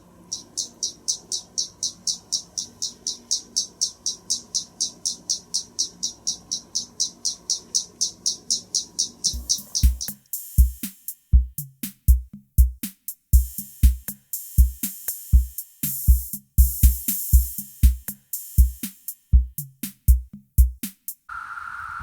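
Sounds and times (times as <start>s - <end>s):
drum machine beat: 0.3s - 21.3s.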